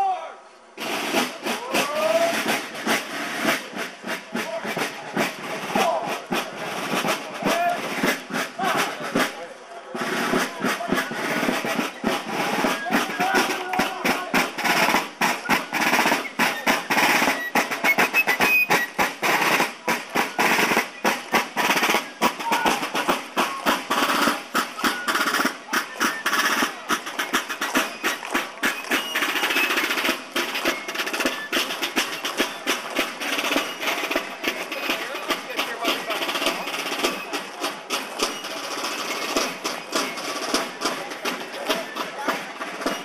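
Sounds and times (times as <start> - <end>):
snare drums marching beat: 0.8 - 43.0.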